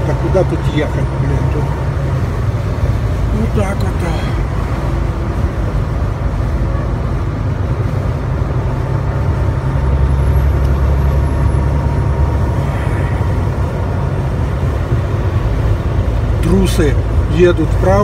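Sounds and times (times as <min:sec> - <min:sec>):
truck engine and tyres droning: 0:00.0 - 0:18.0.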